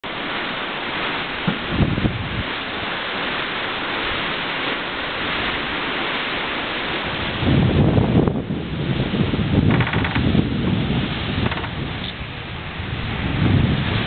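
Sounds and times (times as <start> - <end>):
sea rushing past hull: 0.0 - 14.0
wind rushing over microphone: 0.0 - 14.0.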